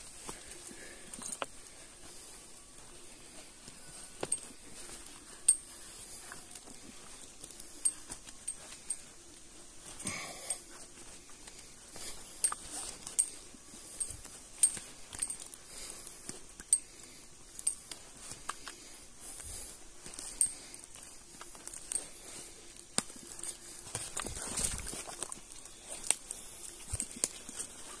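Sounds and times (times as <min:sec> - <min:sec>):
footsteps on a trail: 0:00.0 - 0:28.0.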